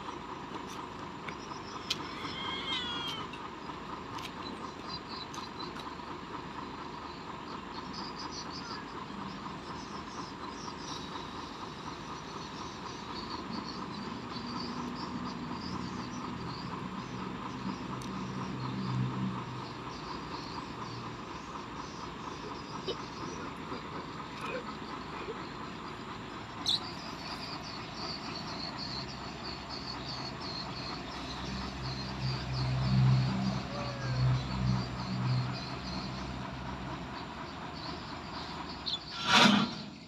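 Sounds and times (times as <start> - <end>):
steady outdoor chirring: 0.0 - 40.0.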